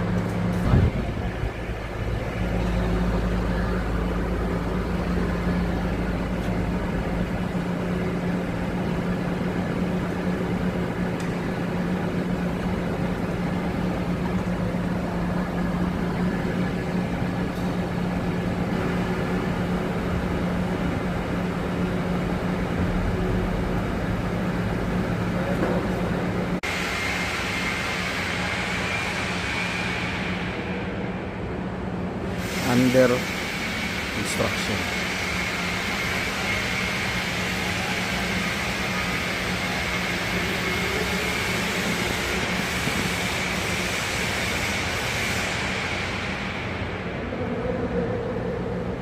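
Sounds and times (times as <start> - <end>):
machinery humming: 0.0 - 49.0.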